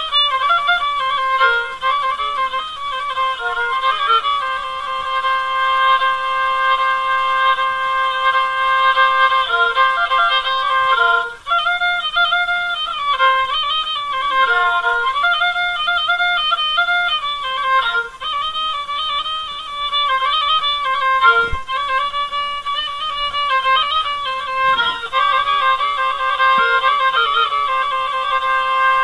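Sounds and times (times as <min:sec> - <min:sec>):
solo violin melody: 0:00.0 - 0:29.0.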